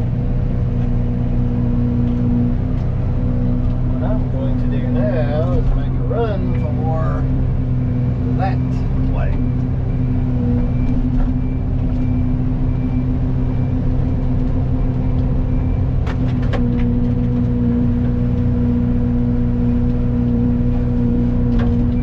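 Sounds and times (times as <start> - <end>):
excavator engine and hydraulics running: 0.0 - 22.0.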